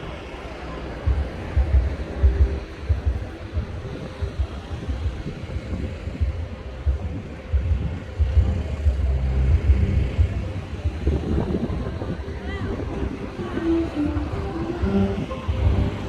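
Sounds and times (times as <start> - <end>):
steady background hiss: 0.0 - 16.0
wind buffeting microphone: 0.0 - 16.0.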